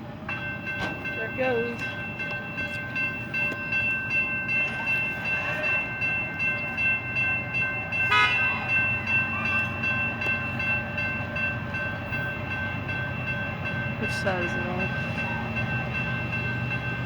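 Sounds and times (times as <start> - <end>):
freight train rumble and clatter: 0.0 - 17.0.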